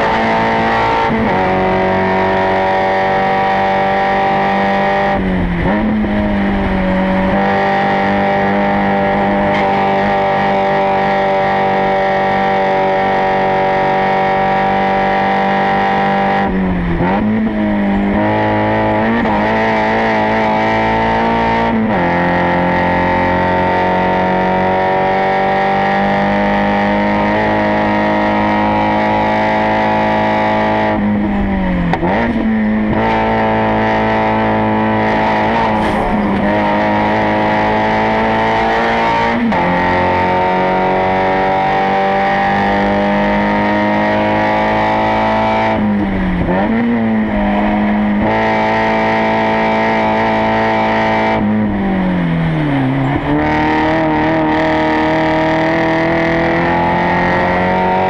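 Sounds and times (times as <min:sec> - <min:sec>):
racing car engine at high revs: 0:00.0 - 0:58.0.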